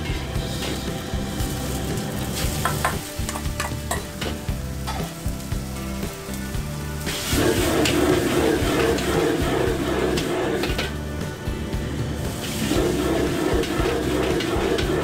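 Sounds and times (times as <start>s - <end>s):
noodles sizzling in hot oil: 0.0s - 15.0s.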